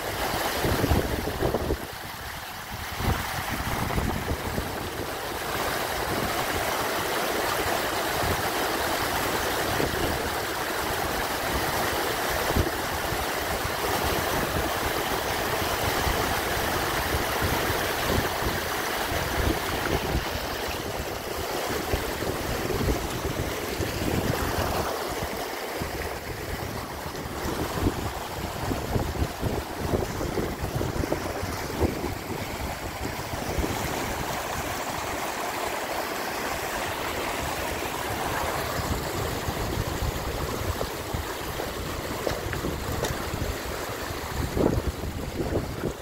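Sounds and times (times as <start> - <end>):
water rushing down a rocky channel: 0.0 - 46.0
wind gusting on microphone: 0.3 - 6.8, 12.3 - 35.6, 36.4 - 46.0.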